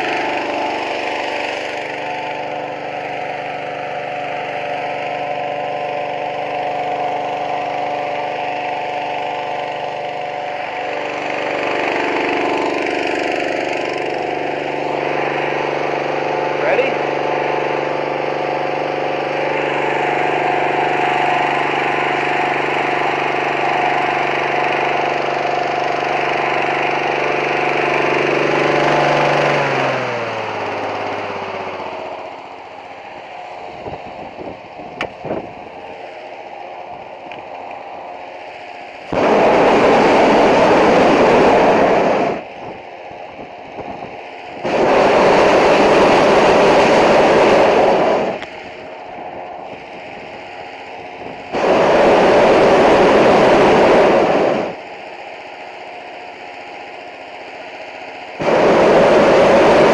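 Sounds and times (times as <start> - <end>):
engine-driven fan running: 0.0 - 59.9
propane burner blasts: 0.0 - 59.9.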